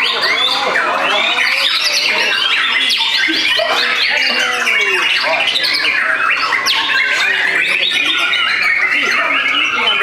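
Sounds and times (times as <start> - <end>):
songbirds singing whistles and trills: 0.0 - 10.0.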